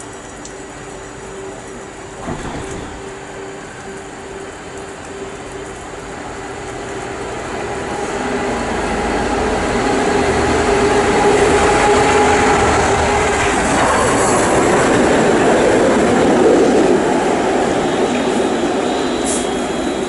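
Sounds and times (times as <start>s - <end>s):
diesel locomotive engine drone: 0.0s - 20.0s
train wheels on rails: 0.0s - 20.0s.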